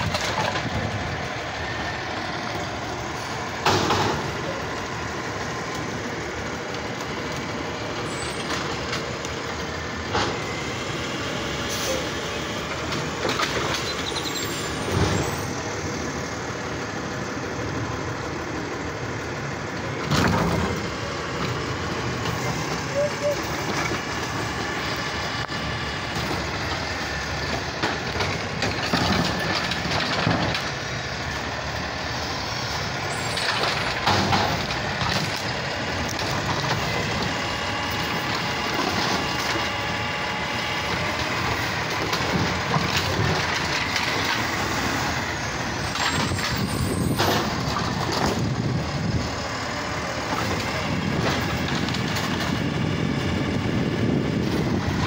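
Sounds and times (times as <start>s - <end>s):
garbage truck engine running: 0.0s - 55.0s.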